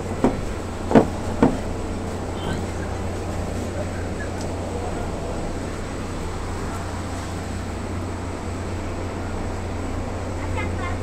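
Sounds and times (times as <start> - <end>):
train running inside carriage: 0.0 - 11.0.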